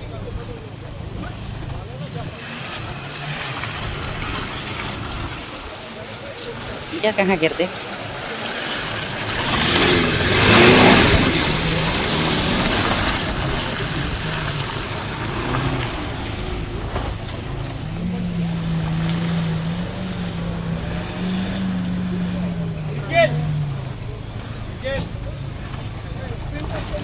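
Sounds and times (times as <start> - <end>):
engine droning: 0.0 - 27.0
racing car passing: 0.0 - 27.0.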